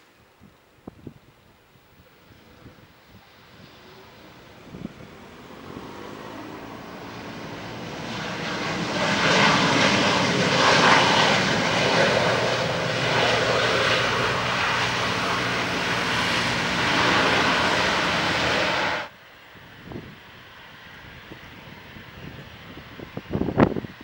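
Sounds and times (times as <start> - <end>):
jet engines roaring: 2.3 - 24.0.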